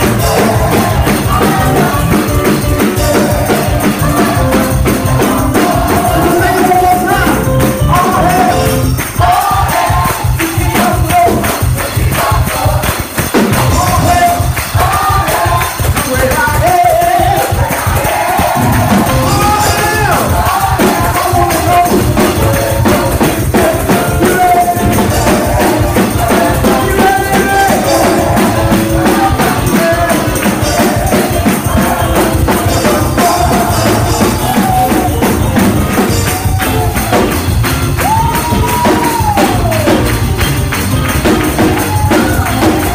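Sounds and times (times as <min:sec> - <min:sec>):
drum kit and cymbals: 0:00.0 - 0:42.9
gospel choir singing: 0:00.0 - 0:42.9
live band playing: 0:00.0 - 0:42.9.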